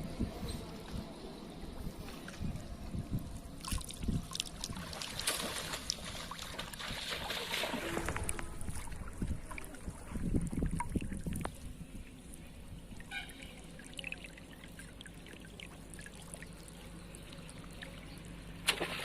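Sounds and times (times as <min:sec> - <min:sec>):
water splashing and trickling: 0:02.2 - 0:19.0.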